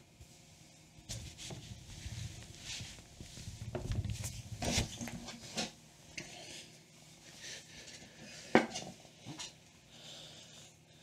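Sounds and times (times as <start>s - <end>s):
rustling and shuffling: 0.0s - 9.6s.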